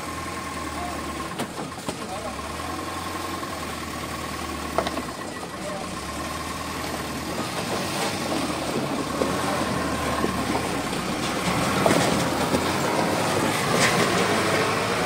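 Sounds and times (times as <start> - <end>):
truck engine humming: 0.0 - 15.0
vehicle knocks and rattles: 1.1 - 2.4, 4.0 - 15.0.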